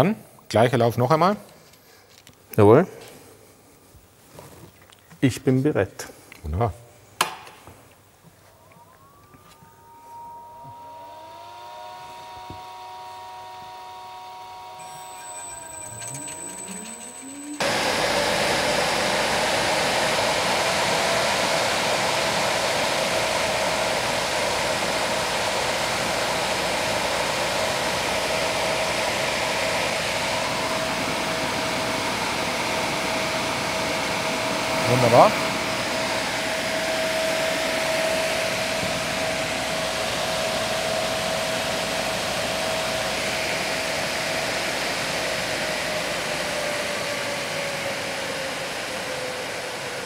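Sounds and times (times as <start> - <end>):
fan motor hum: 8.1 - 50.0
fan air rush: 8.4 - 50.0
electric motor whine: 8.5 - 50.0.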